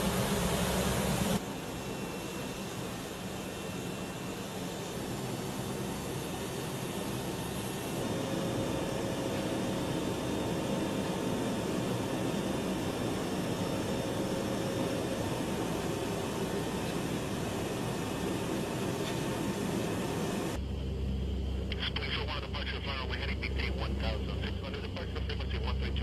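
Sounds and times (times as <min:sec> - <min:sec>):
aircraft engines humming: 0:00.0 - 0:26.0.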